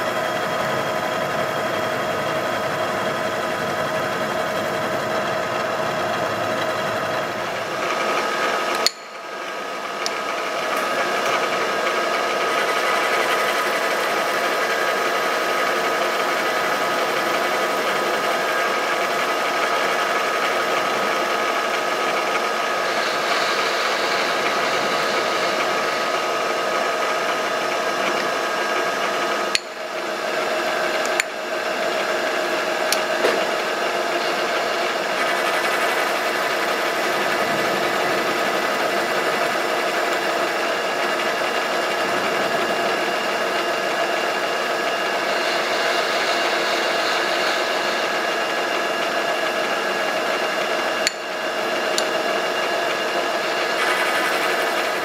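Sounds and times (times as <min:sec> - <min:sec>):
milling machine humming: 0:00.0 - 0:55.0.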